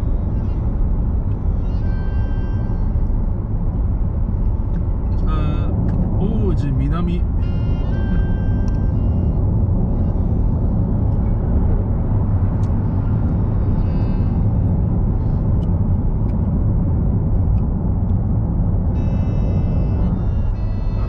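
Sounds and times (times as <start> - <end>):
car road rumble from inside: 0.0 - 21.0.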